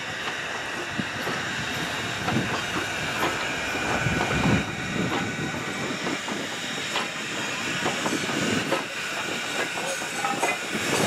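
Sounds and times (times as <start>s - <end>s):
steam hissing: 0.0s - 11.0s
steam locomotive exhaust chuffs: 0.0s - 11.0s
train wheels clattering: 0.0s - 11.0s.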